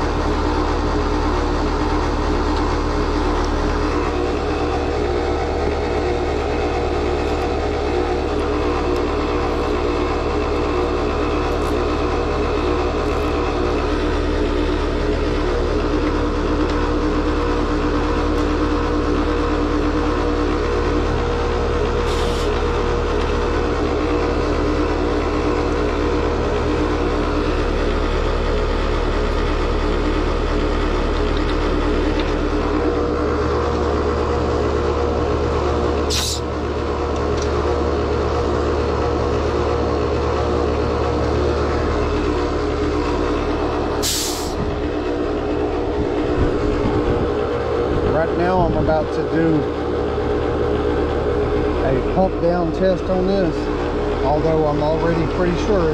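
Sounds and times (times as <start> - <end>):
heat pump compressor grinding: 0.0 - 55.9.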